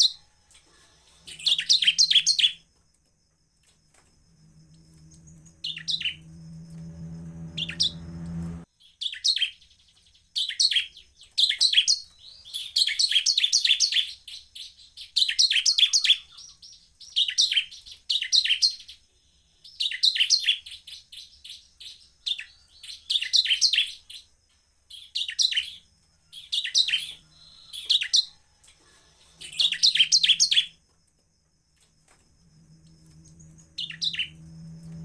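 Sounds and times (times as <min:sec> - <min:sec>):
bird singing rapid chittering notes: 0:01.2 - 0:02.6, 0:04.5 - 0:28.4, 0:29.2 - 0:30.8, 0:32.8 - 0:35.0.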